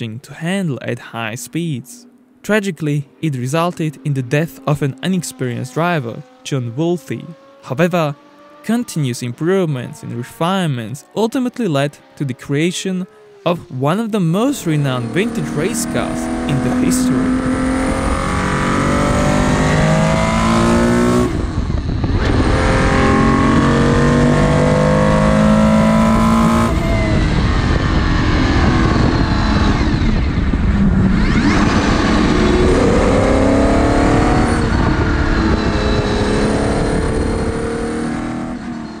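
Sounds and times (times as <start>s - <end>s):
race car engine revving: 1.3s - 39.0s.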